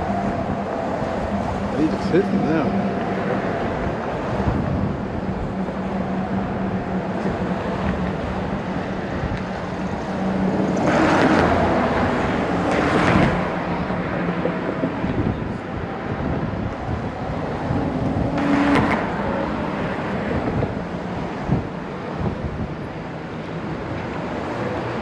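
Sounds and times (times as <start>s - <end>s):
road traffic drone: 0.0s - 25.0s
vehicles rushing past: 0.0s - 25.0s.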